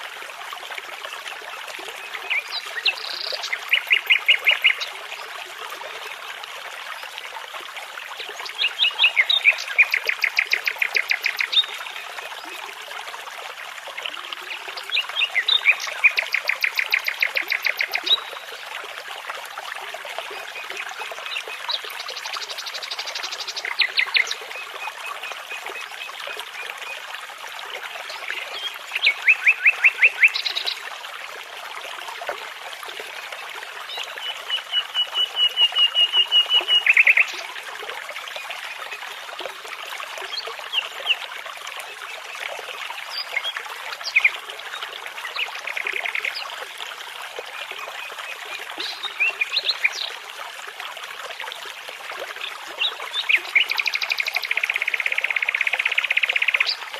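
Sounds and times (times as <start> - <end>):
babbling brook: 0.0 - 56.9.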